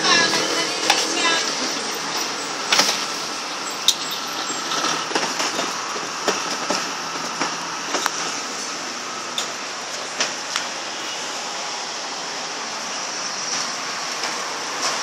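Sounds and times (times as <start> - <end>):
wheelie bin rolling on concrete: 0.0 - 10.8, 13.4 - 15.0.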